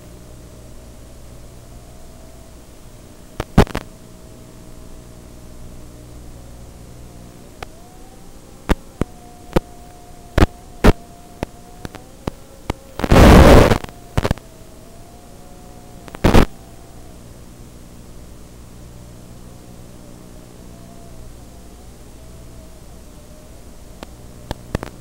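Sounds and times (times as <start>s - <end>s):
faint wavering tone: 0.0s - 25.0s
loud static bursts: 0.0s - 25.0s
radio hiss: 0.0s - 25.0s
sharp static crackles: 0.0s - 25.0s.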